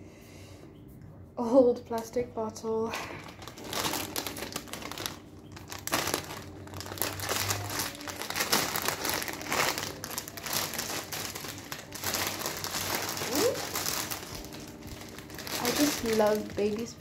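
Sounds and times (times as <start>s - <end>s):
plastic sleeve crinkling: 2.9s - 17.0s.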